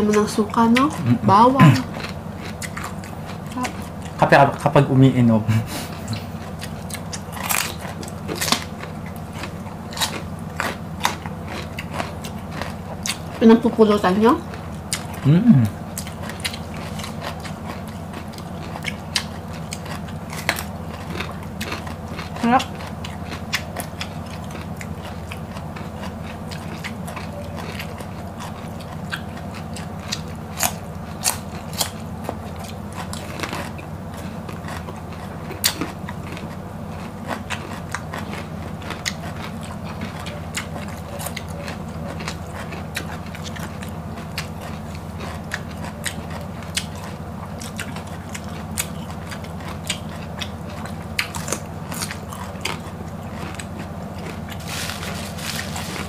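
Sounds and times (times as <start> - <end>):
soft chewing: 0.0 - 4.8, 5.6 - 56.0
steady low hum: 0.0 - 56.0
crunchy biting of vegetables: 1.8 - 4.2, 5.7 - 13.4, 14.5 - 56.0.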